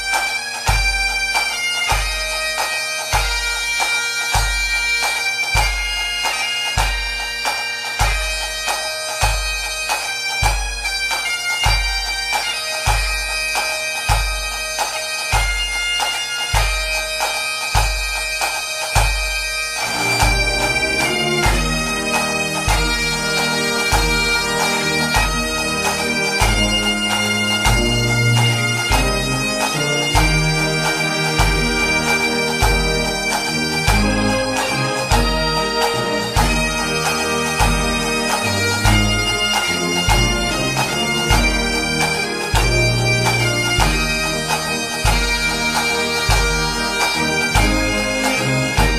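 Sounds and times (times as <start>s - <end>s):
bagpipe music: 0.0s - 48.9s.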